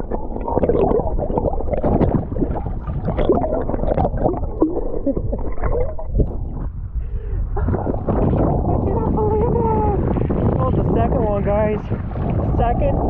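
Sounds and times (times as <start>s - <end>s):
bubbling knocks and crackles: 0.0s - 7.0s, 7.6s - 13.0s
underwater water churning: 0.0s - 13.0s.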